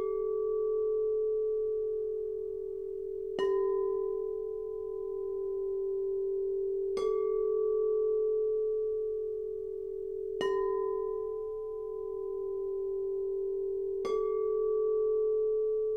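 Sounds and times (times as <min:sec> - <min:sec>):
singing bowls ringing: 0:00.0 - 0:15.9.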